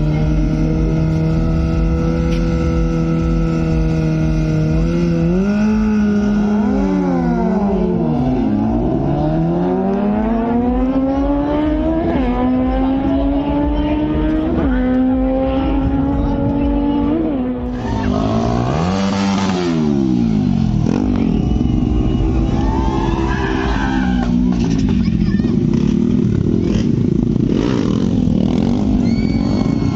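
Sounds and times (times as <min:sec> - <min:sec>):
motorcycle engine revving high: 0:00.0 - 0:29.9.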